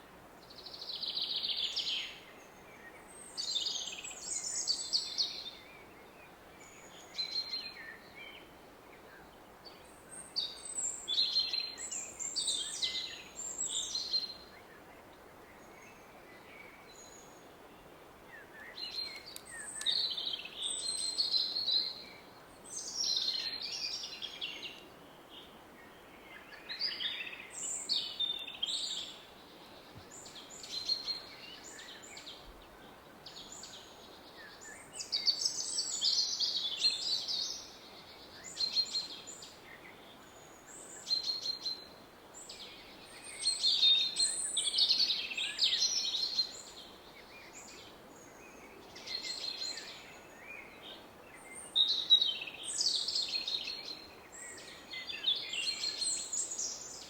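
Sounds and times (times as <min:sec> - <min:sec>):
songbirds chirping and trilling: 0:00.5 - 0:57.0.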